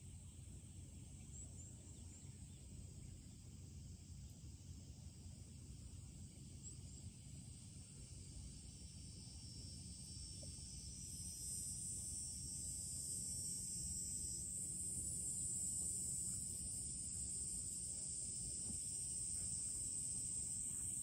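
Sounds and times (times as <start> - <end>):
low steady rumble: 0.0 - 21.0
insects buzzing: 0.1 - 21.0.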